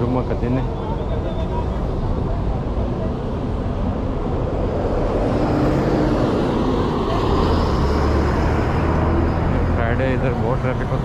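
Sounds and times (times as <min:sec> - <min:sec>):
bus engine hum: 0:00.0 - 0:11.0
road traffic: 0:00.0 - 0:11.0.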